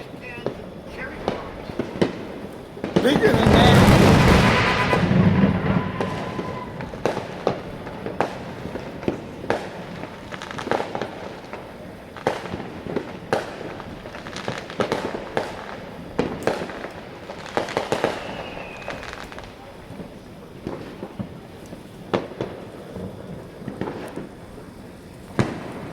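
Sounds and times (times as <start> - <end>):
fireworks bangs and pops: 0.0 - 25.9.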